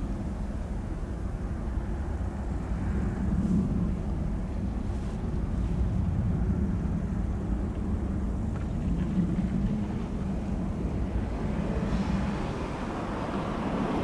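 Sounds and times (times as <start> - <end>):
jet engines rumbling: 0.0 - 14.0
wind on microphone: 0.0 - 14.0.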